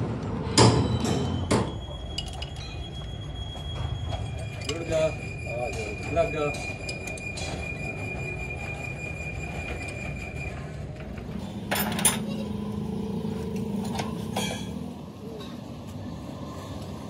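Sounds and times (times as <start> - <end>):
workshop background noise: 0.0 - 17.0.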